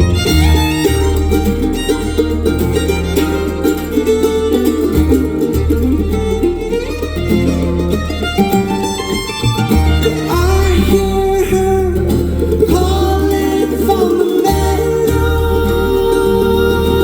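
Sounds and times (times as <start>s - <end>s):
fiddle melody: 0.0s - 17.0s
guitar: 0.0s - 17.0s
mandolin: 0.0s - 17.0s
upright bass: 0.0s - 17.0s.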